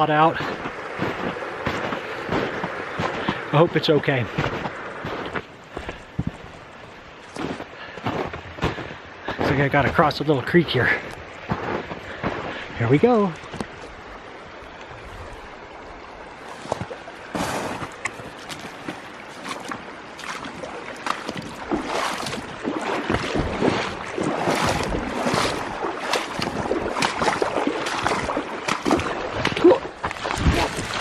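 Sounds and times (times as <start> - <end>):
splashing footsteps in water: 0.3 - 10.0, 11.0 - 14.0, 16.2 - 31.0.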